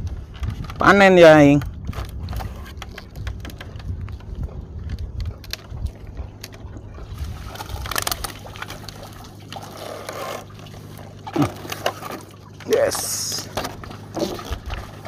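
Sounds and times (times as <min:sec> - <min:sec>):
steady low hum: 0:01.6 - 0:15.0
water splashing and trickling: 0:01.7 - 0:15.0.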